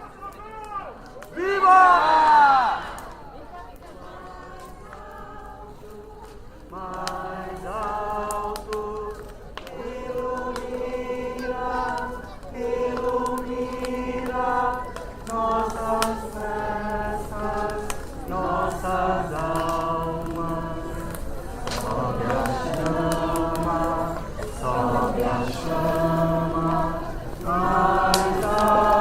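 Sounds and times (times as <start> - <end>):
group singing slow song: 4.1 - 29.0.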